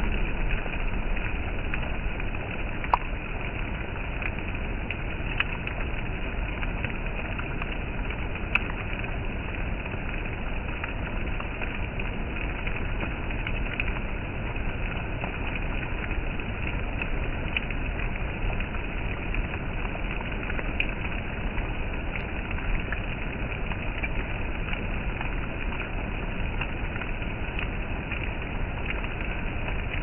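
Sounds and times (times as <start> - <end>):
rain drops ticking: 0.0 - 30.0
steady rain: 0.0 - 30.0.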